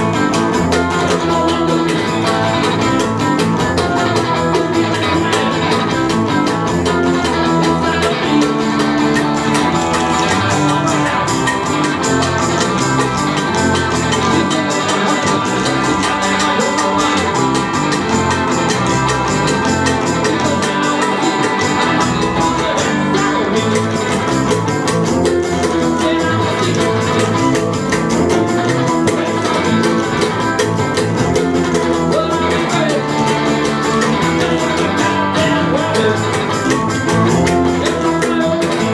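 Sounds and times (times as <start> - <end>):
bass guitar: 0.0 - 38.9
guitar: 0.0 - 38.9.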